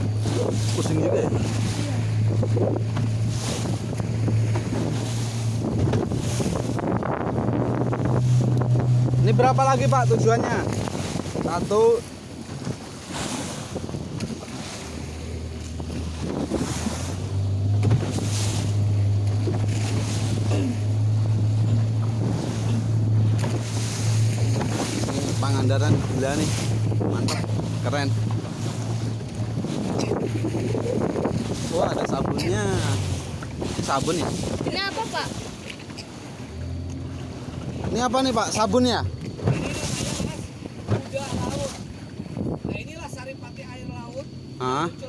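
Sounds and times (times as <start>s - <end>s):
wind buffeting microphone: 0.0s - 35.7s, 36.5s - 45.0s
boat engine humming: 0.0s - 45.0s
water splashing along hull: 0.0s - 45.0s.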